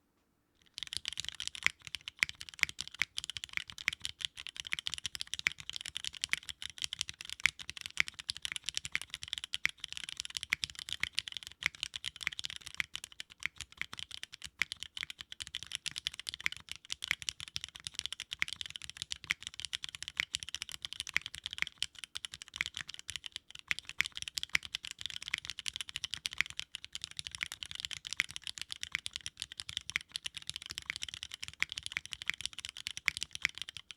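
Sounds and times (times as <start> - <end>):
mechanical keyboard typing clacks: 0.7 - 33.9.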